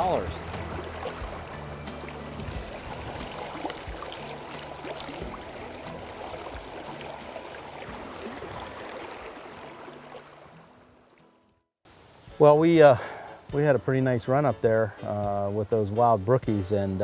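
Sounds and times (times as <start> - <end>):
low background music: 0.0 - 11.5, 12.2 - 17.0
stream running over rocks: 0.0 - 14.4.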